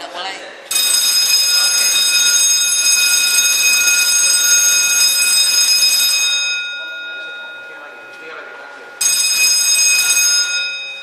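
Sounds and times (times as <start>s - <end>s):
fire alarm ringing: 0.7s - 11.0s.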